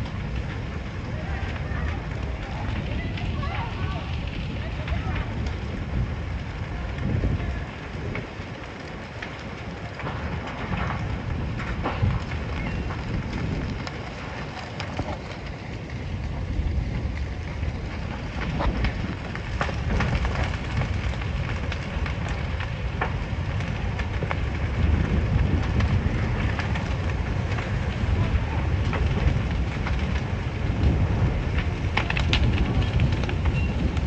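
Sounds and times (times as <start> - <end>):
burning timber crackling and popping: 0.0 - 34.0
low rumble of flames: 0.0 - 34.0.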